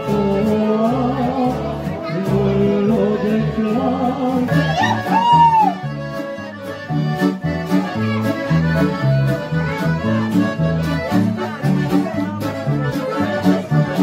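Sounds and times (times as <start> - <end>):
bass line: 0.0 - 14.0
instrumental music with beat: 0.0 - 14.0.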